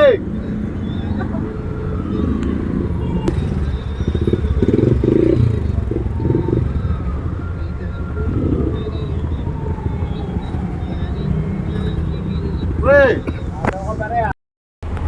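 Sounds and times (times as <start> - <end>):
vehicle engine rumbling: 0.0 - 14.3
faint whine: 0.4 - 14.3.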